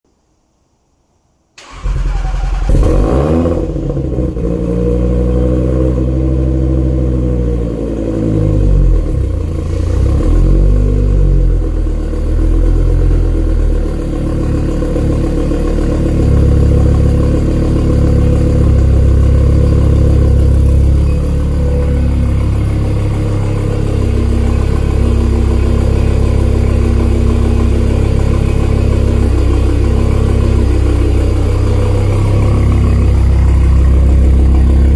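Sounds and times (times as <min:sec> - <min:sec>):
car engine starting and revving: 0:01.6 - 0:34.9.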